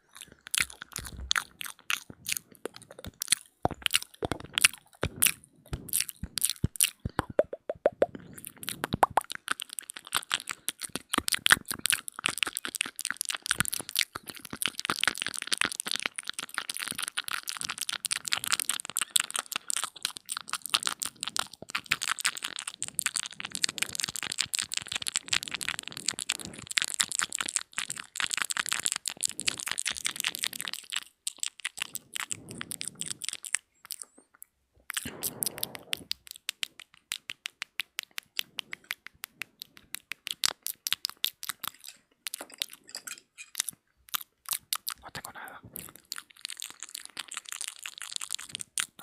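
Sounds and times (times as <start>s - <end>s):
wet mouth clicks and smacks: 0.0s - 49.0s.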